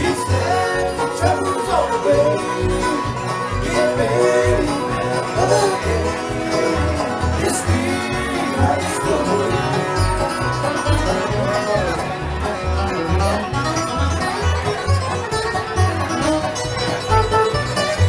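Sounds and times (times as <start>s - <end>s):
bluegrass band playing: 0.0s - 18.0s
fiddle: 0.0s - 18.0s
plucked upright bass: 0.0s - 18.0s.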